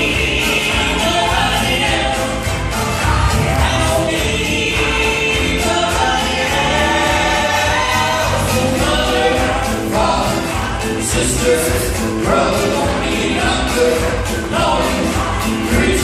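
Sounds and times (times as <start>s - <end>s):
men singing gospel together: 0.0s - 16.0s
musical accompaniment: 0.0s - 16.0s.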